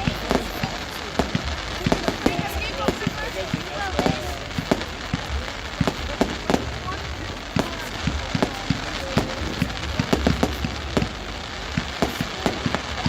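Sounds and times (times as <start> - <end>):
fireworks popping and banging: 0.0 - 13.0
steady hiss: 0.0 - 13.0.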